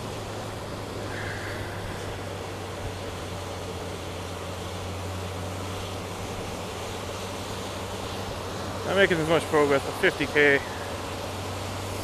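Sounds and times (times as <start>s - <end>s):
motorcycle engine humming: 0.0s - 12.0s
wet road noise: 0.0s - 12.0s.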